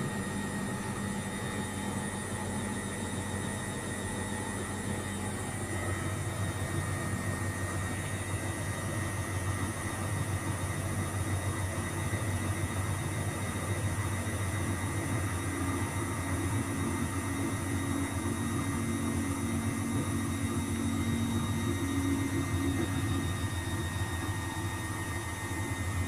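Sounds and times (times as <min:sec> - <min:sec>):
washing machine running: 0:00.0 - 0:26.0.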